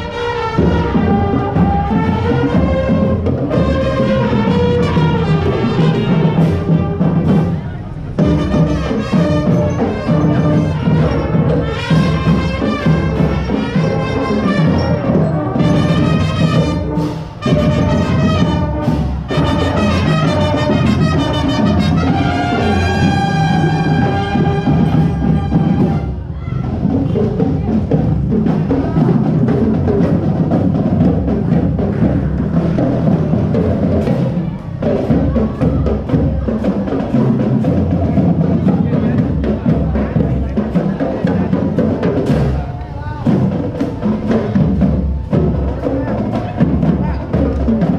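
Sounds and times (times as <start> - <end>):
brass and percussion music: 0.0 - 47.9.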